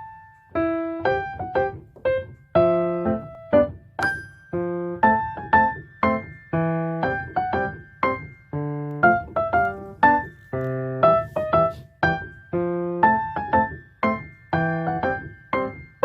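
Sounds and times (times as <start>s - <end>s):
electric piano melody: 0.0s - 16.0s.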